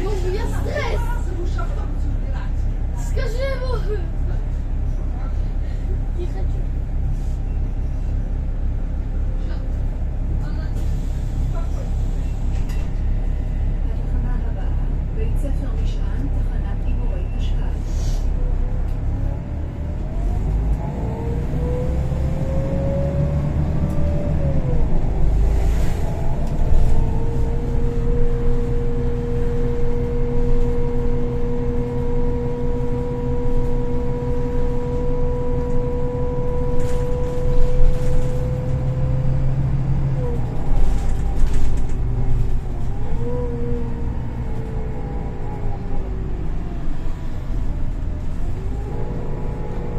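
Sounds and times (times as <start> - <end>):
bus engine drone: 0.0 - 49.9.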